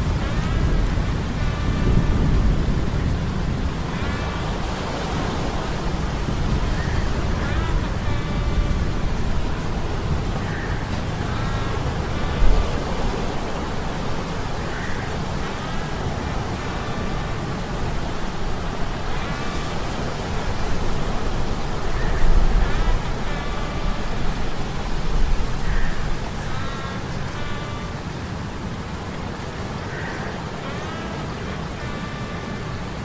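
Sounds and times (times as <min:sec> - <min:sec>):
wind and surf rumbling: 0:00.0 - 0:33.0.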